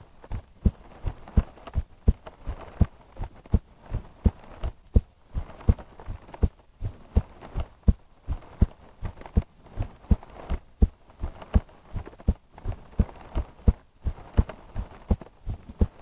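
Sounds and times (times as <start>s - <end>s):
heartbeat thumps: 1.4s - 16.0s.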